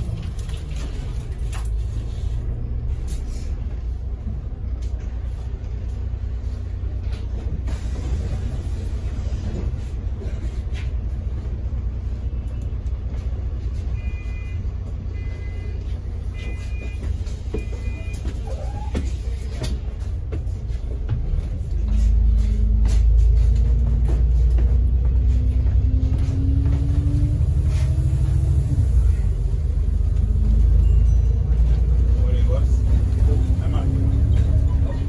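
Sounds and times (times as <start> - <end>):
bus engine rumbling: 0.0 - 35.0.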